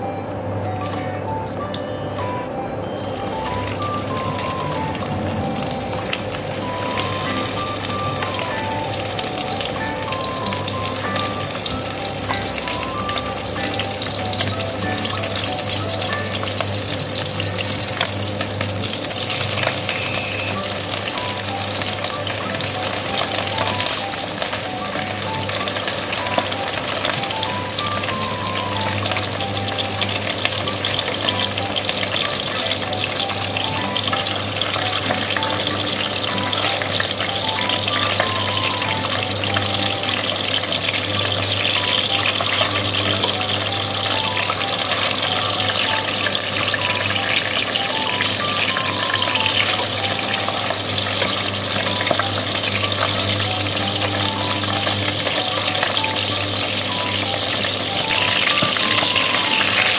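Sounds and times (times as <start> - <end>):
quiet background music: 0.0 - 59.9
chicken sizzling in oil: 0.6 - 59.9.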